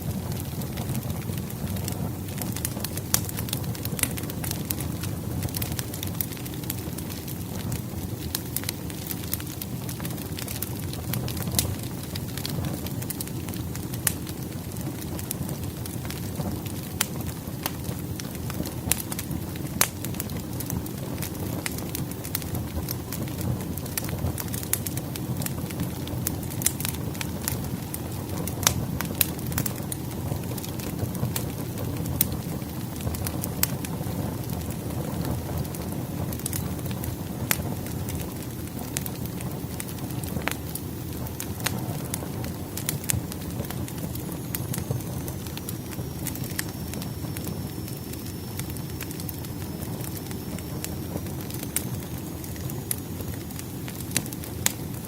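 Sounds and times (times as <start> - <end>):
firewood crackling and popping: 0.0 - 55.0
low rush of flame: 0.0 - 55.0.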